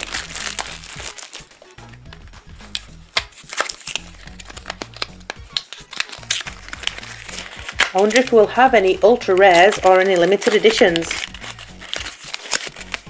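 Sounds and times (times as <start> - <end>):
plastic wrapper crinkling: 0.0 - 13.0
quiet background music: 0.0 - 13.0.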